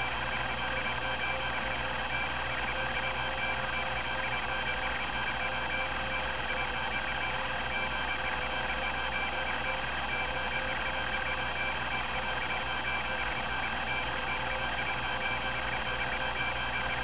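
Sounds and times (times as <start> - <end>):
hard drive seeking chatter: 0.0 - 17.0
hard drive whining tones: 0.0 - 17.0.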